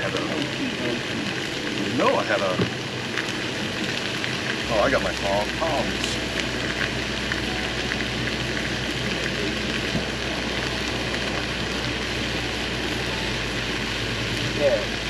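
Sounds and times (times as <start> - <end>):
food sizzling in a pan: 2.7 - 15.0.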